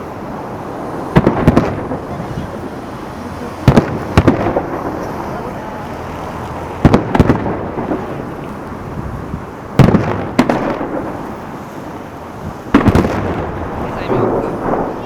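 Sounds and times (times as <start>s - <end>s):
fireworks bursting with loud bangs: 0.0s - 15.0s
rolling rumble echoing: 0.0s - 15.0s.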